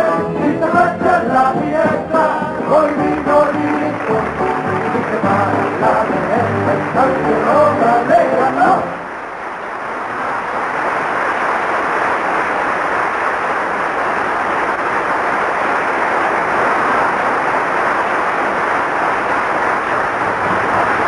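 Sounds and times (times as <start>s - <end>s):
audience applauding: 0.6s - 21.0s.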